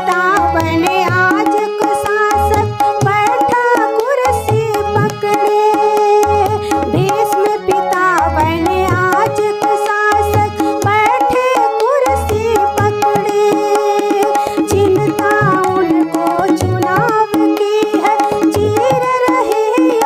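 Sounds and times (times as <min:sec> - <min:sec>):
harmonium chords: 0:00.0 - 0:20.0
tabla rhythm: 0:00.0 - 0:20.0
woman singing folk song: 0:00.0 - 0:20.0.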